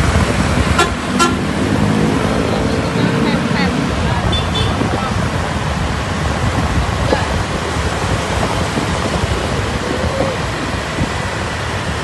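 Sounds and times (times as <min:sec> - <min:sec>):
road traffic: 0:00.0 - 0:12.0
wind rumbling on microphone: 0:00.0 - 0:12.0.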